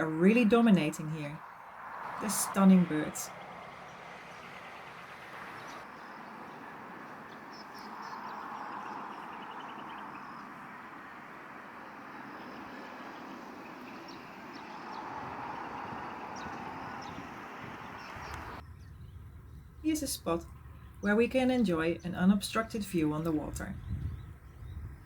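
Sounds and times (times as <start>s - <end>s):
distant engine noise: 0.0s - 25.0s
small birds chirping: 0.0s - 25.0s.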